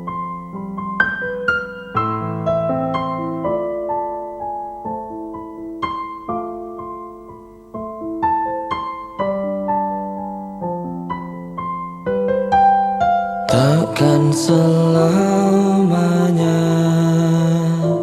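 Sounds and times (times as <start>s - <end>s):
slow solo piano music: 0.0s - 18.0s.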